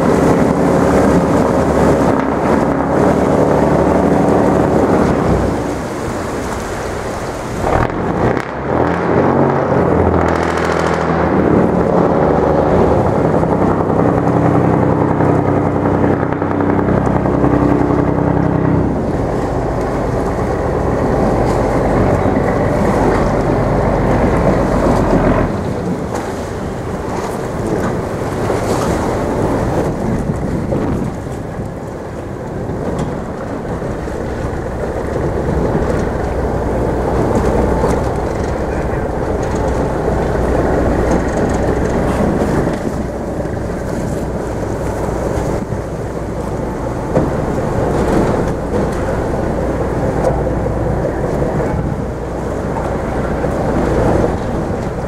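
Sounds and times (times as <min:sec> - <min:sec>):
boat engine humming: 0:00.0 - 0:55.0
churning water and ice: 0:00.0 - 0:55.0.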